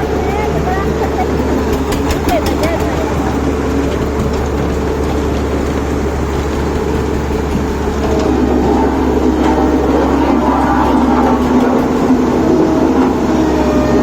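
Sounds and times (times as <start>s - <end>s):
heavy engine running: 0.0s - 14.0s.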